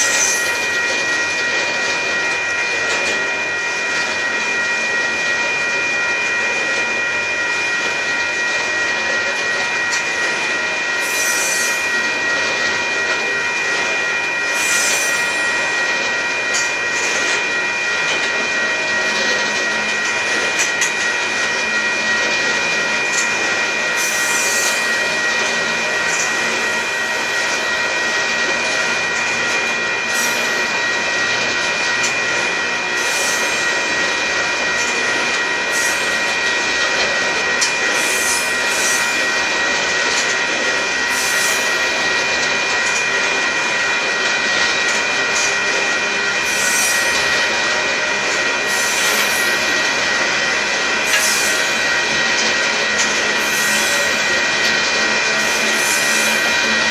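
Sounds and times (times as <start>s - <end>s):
rumble of train wheels: 0.0s - 56.9s
train wheel squeal: 0.0s - 56.9s.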